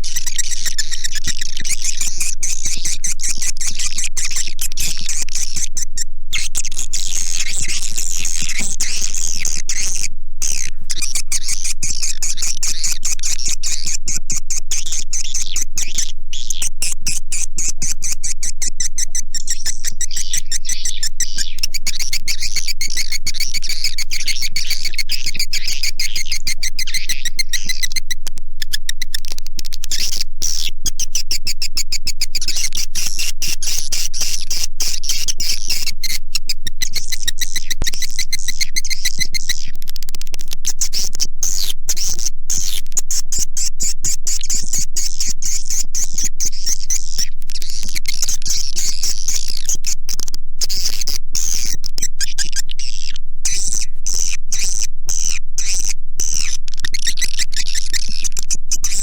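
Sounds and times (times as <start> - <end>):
swiftlet twittering and clicking: 0.0 - 59.0.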